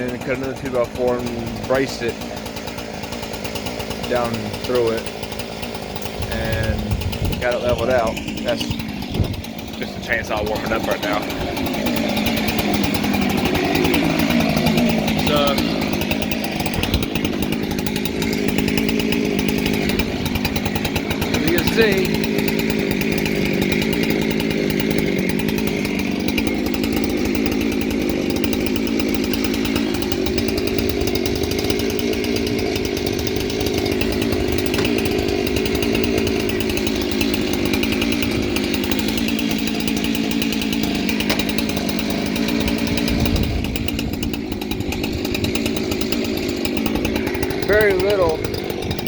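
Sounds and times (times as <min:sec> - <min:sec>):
chainsaw running steadily: 0:00.0 - 0:49.0.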